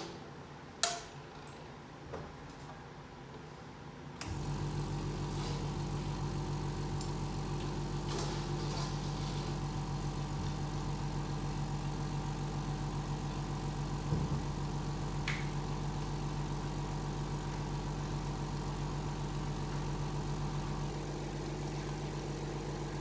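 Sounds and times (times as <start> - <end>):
motor humming: 4.2 - 23.0.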